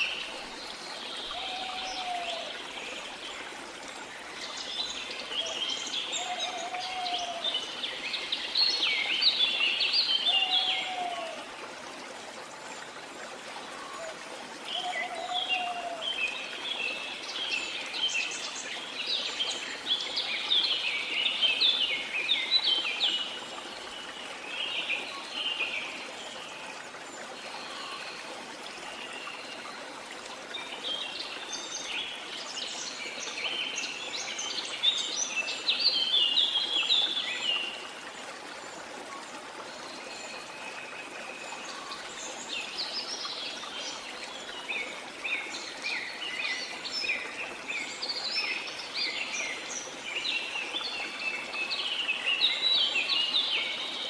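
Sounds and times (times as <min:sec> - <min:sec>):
running water: 0:00.0 - 0:54.0
songbirds chirping: 0:00.0 - 0:54.0.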